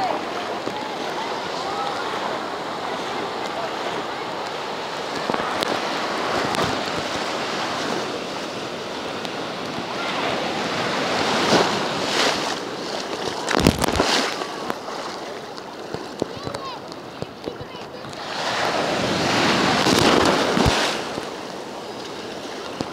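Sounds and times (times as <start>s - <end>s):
wind on microphone: 0.0s - 15.1s, 15.9s - 22.9s
sea surf breaking: 0.0s - 22.9s.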